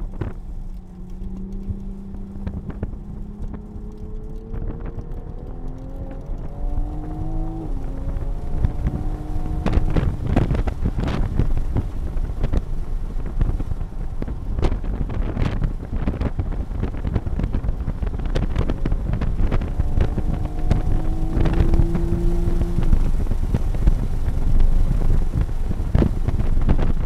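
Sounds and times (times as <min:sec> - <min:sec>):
car engine accelerating: 0:00.0 - 0:27.0
wind buffeting on microphone: 0:00.0 - 0:27.0.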